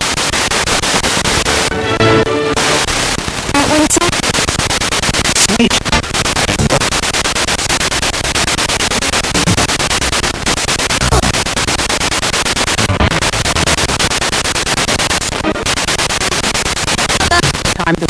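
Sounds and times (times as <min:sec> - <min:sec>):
radio static pulsing: 0:00.0 - 0:18.0
snatches of radio broadcast: 0:00.0 - 0:18.0.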